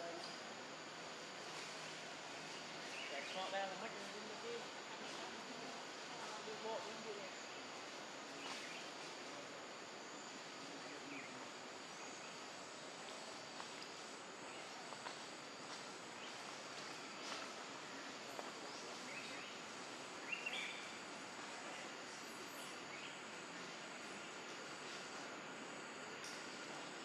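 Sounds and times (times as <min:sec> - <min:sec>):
high insect drone: 0:00.0 - 0:27.0
outdoor hiss: 0:00.0 - 0:27.0.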